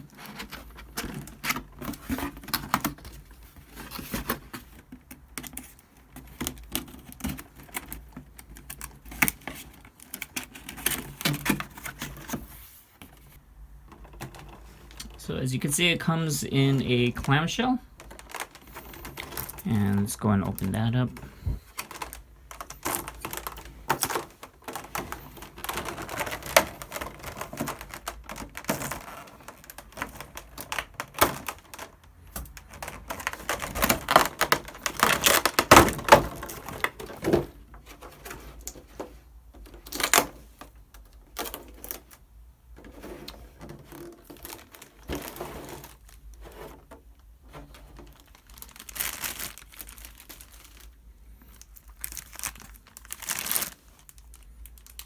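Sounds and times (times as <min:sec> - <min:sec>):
stiff plastic packaging crackling: 0:00.0 - 0:55.0.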